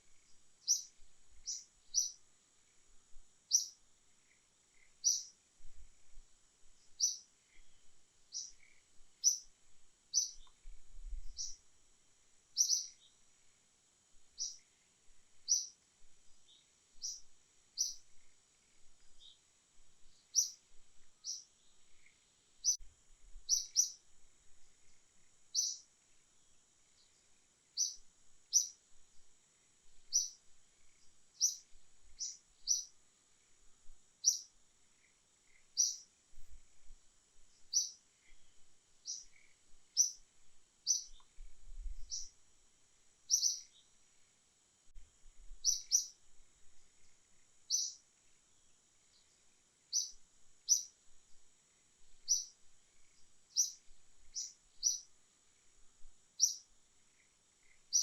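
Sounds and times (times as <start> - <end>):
steady high hum: 0.0 - 58.0.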